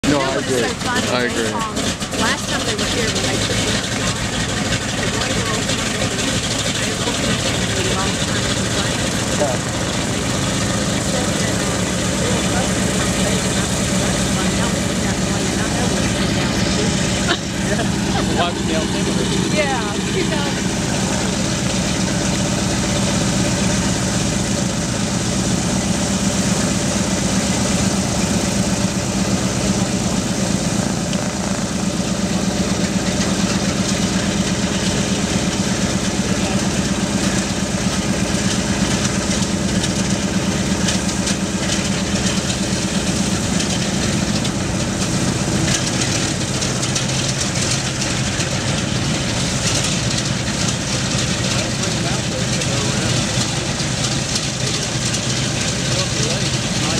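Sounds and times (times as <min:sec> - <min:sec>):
radial aircraft engines idling: 0:00.0 - 0:56.9.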